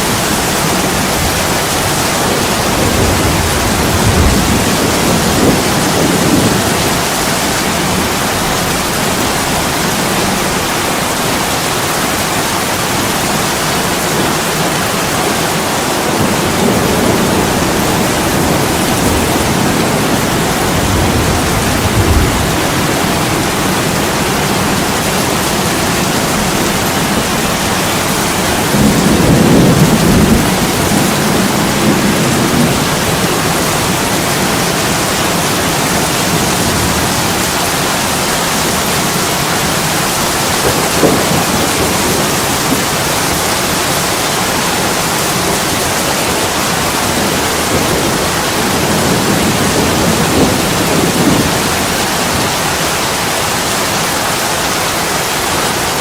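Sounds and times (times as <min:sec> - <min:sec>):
heavy rain on window glass: 0:00.0 - 0:56.0.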